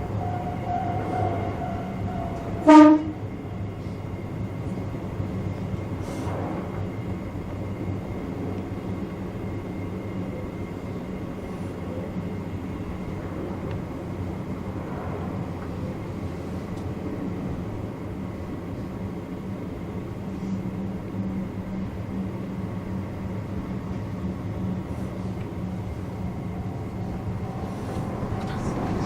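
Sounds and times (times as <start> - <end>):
train cab low hum: 0.0 - 29.0.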